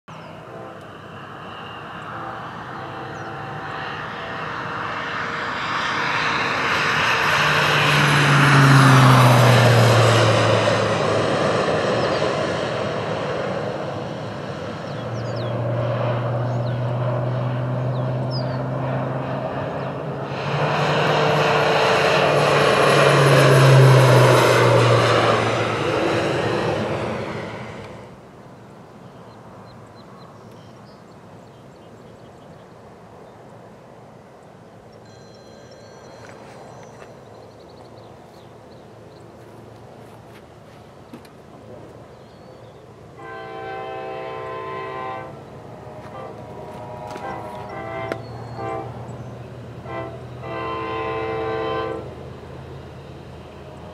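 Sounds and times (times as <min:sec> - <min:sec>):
low-flying airplane passing overhead: 0:00.1 - 0:53.9.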